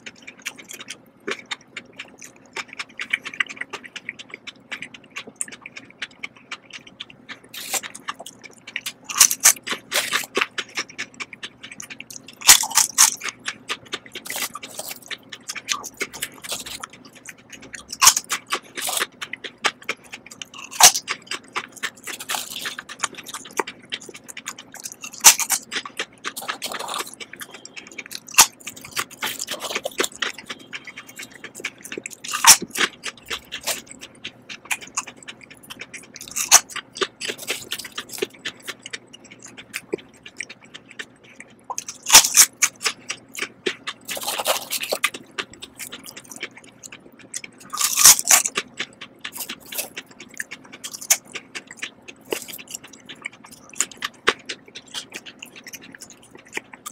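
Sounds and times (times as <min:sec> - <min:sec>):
potato chips crunching: 0:00.0 - 0:56.9.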